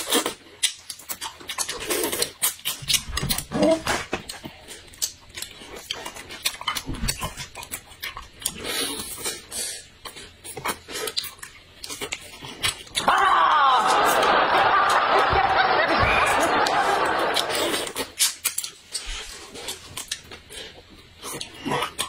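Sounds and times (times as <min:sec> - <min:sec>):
sucking and chewing: 0:00.0 - 0:13.2, 0:17.3 - 0:22.0.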